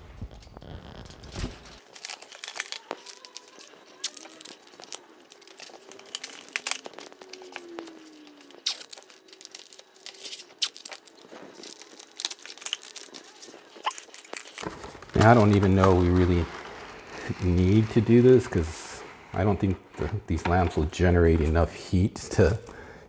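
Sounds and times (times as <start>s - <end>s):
tape pulled from roll: 0.0s - 20.2s
plastic wrap crinkling: 0.0s - 21.7s.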